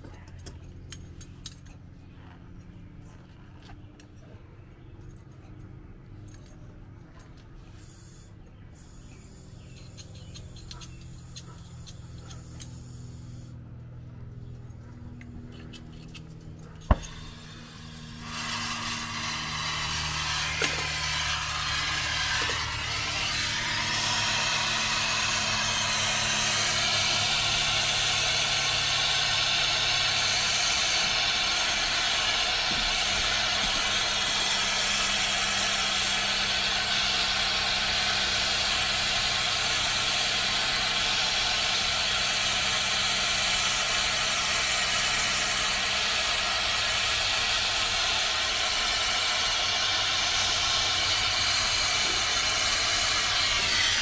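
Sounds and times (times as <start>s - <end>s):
machine running with whining tones: 9.0s - 54.0s.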